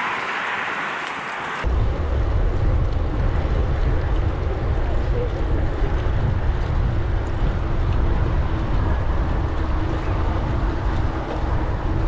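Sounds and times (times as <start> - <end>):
bike tyres rolling on gravel: 0.0 - 12.0
wind rumbling on microphone: 0.0 - 12.0.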